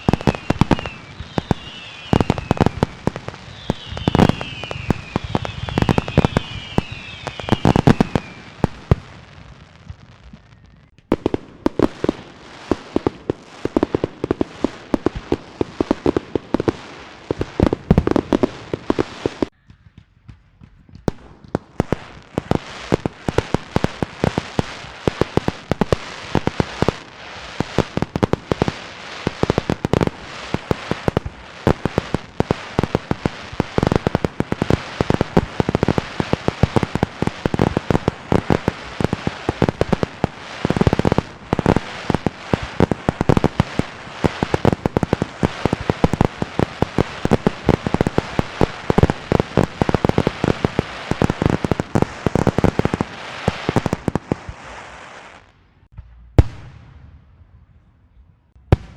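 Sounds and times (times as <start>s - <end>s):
fireworks falling whistles: 0.0s - 55.6s
firecrackers banging and popping: 0.0s - 57.0s.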